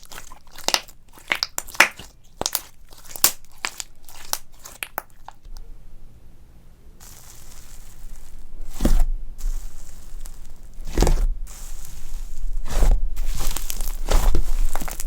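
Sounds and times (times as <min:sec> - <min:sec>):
slime squeezed crackling squishing: 0:00.0 - 0:05.5, 0:07.0 - 0:15.0.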